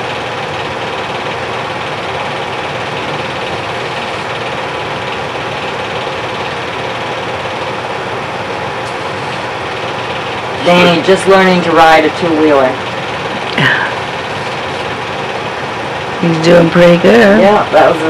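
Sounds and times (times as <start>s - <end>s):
film projector whirring clatter: 0.0s - 18.0s.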